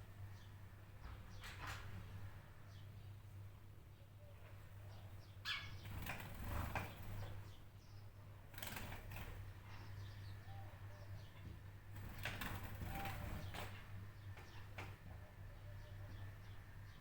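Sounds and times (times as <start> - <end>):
faint birds calling: 0.2 - 17.0.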